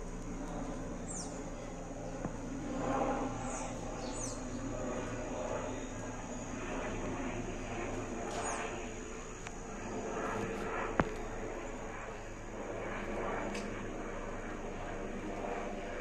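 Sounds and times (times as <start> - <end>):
distant helicopter drone: 0.0 - 16.0.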